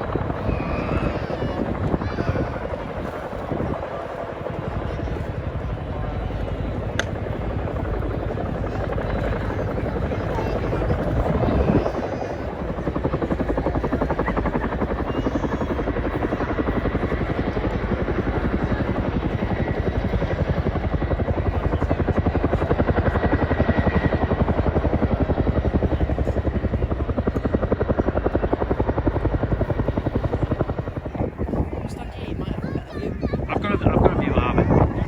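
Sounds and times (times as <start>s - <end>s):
helicopter rotor chopping: 0.0s - 35.0s.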